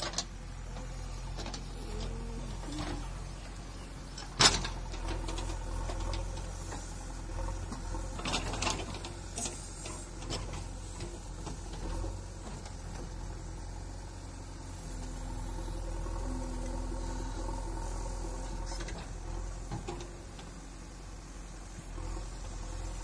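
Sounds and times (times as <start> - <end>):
diesel engine running with rattle: 0.0 - 23.0.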